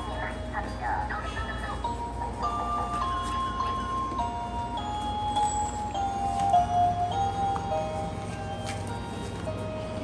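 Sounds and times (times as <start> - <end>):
slow melody of held notes: 1.8 - 10.0.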